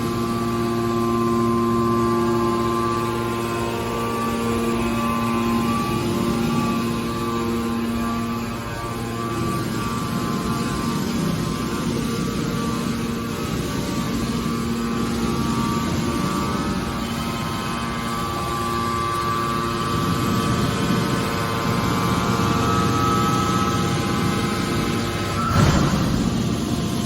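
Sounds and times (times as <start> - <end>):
scrap baler machine drone: 0.0 - 27.0.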